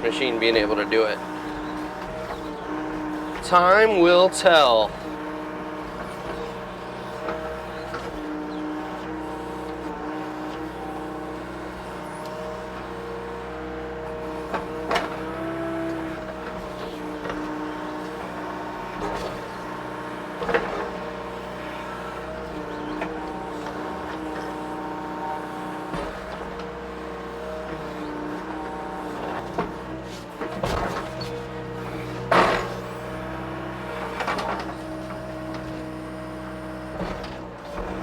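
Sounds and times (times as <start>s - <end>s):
excavator diesel engine: 0.0s - 38.0s
hydraulic whine: 0.0s - 38.0s.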